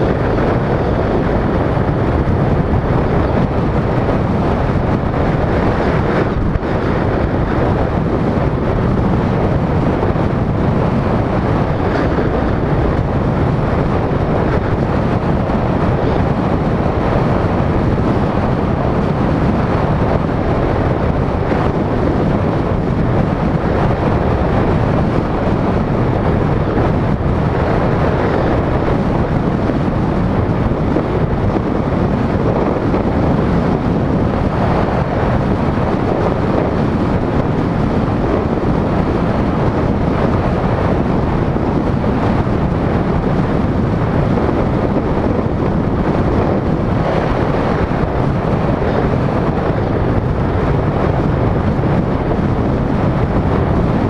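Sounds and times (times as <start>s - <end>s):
tyre and road noise: 0.0s - 54.0s
wind buffeting microphone: 0.0s - 54.0s.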